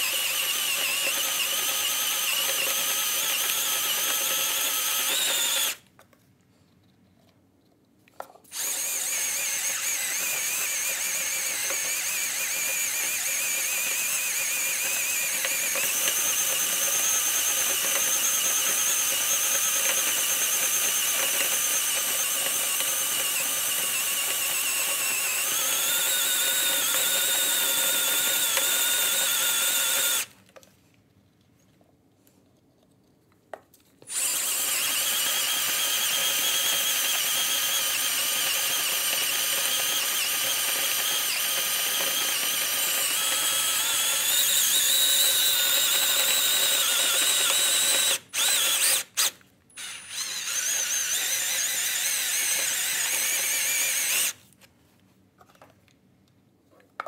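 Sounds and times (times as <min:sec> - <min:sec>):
power drill cutting steel: 0:00.0 - 0:05.8, 0:08.5 - 0:30.3, 0:34.1 - 0:54.4.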